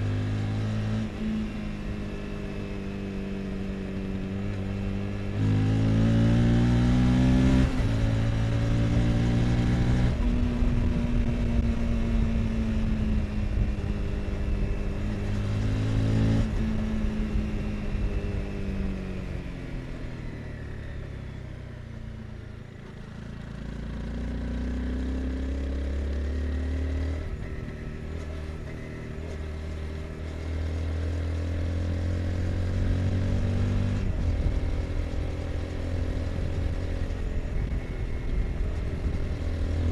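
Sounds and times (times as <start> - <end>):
motorcycle engine revving: 0.0 - 21.2, 21.8 - 39.9.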